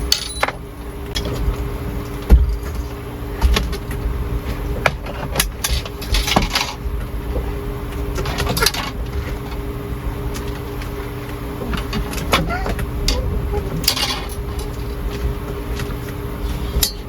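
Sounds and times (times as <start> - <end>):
gusty storm wind: 0.0 - 17.0
steady low hum: 0.0 - 17.0.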